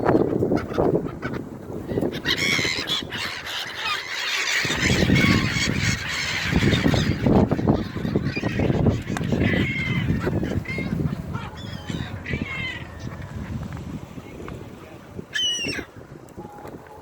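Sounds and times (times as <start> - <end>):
wind on microphone: 0.0 - 3.9, 4.5 - 17.0
gulls squawking: 0.0 - 14.1, 14.8 - 16.7.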